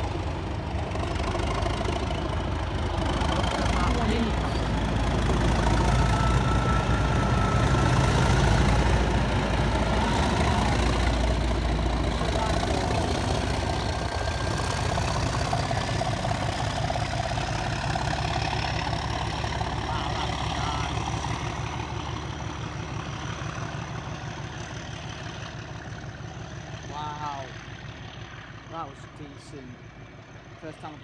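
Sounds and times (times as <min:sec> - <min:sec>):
diesel locomotive engine drone: 0:00.0 - 0:31.0.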